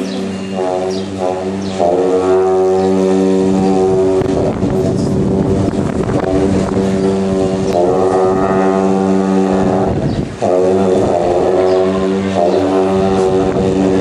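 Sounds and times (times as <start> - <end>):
long horns playing held notes: 0.0 - 14.0.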